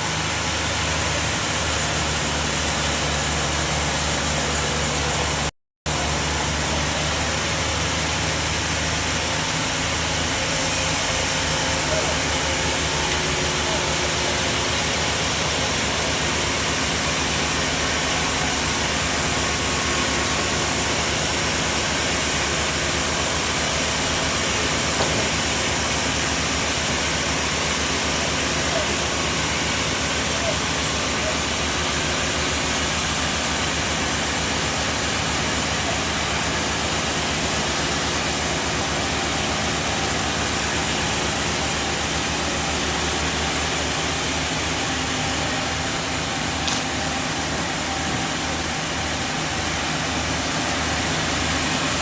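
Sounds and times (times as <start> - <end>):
bandsaw cutting log: 0.0 - 8.2, 9.5 - 52.0.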